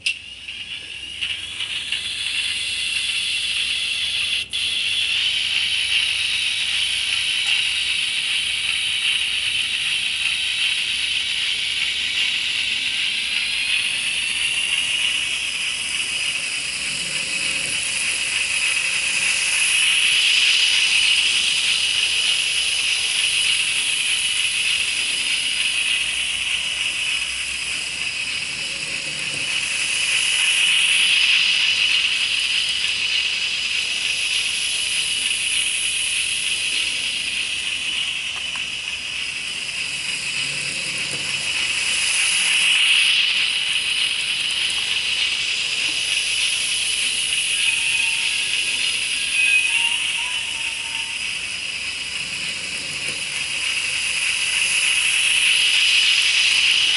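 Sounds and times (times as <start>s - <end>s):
model railcar motor whirring: 0.0s - 56.9s.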